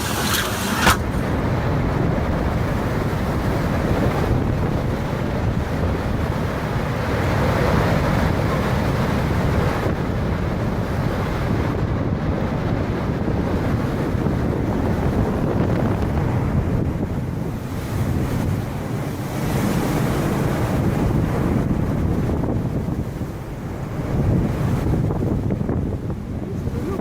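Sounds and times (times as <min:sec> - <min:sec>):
rough sea rushing: 0:00.0 - 0:27.0
wind buffeting microphone: 0:00.0 - 0:27.0.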